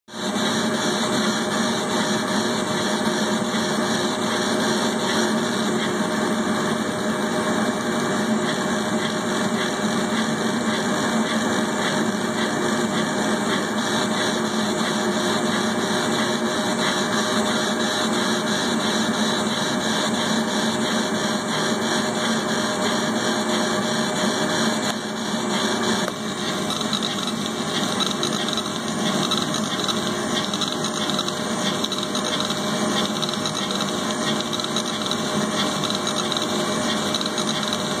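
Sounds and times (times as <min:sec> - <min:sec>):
laser engraver mechanical whir: 0:00.1 - 0:38.0.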